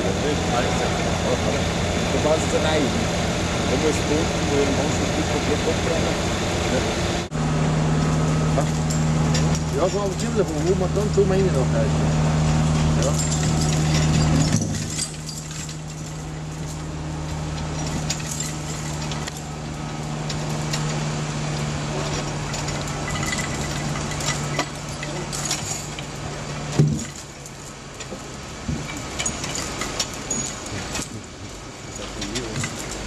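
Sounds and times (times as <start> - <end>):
cable winch engine humming: 0.0 - 33.0.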